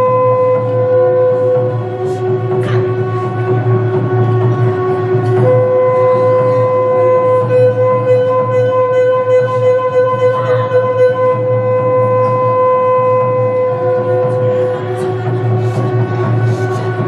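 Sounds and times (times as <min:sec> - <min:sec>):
reed wind instrument long note: 0:00.0 - 0:17.0.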